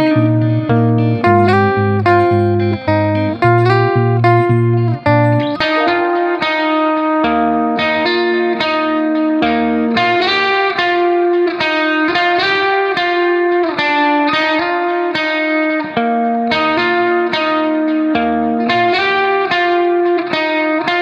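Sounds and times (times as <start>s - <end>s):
plucked guitar notes: 0.0s - 21.0s.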